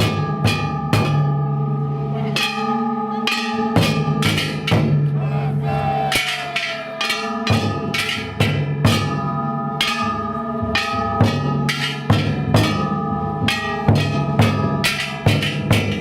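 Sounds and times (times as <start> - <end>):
gongs ringing: 0.0 - 16.0
large drum beats: 0.0 - 16.0.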